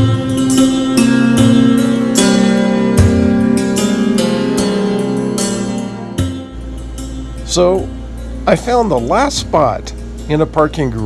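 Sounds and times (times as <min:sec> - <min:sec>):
low steady hum: 0:00.0 - 0:11.0
plucked strings music: 0:00.0 - 0:11.0.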